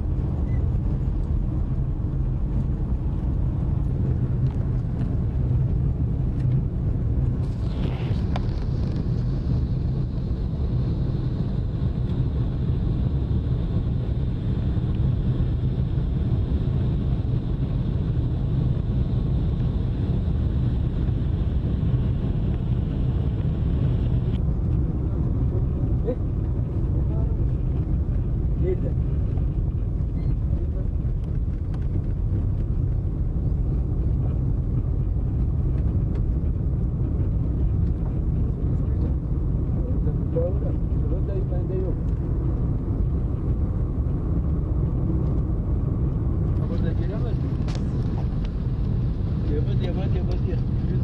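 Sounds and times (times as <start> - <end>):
car engine and tyres drone: 0.0 - 51.0.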